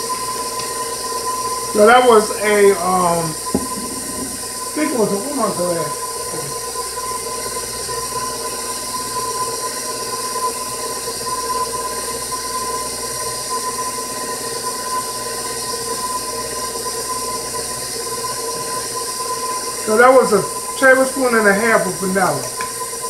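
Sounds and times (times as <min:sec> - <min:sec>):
stand mixer running: 0:00.0 - 0:23.0.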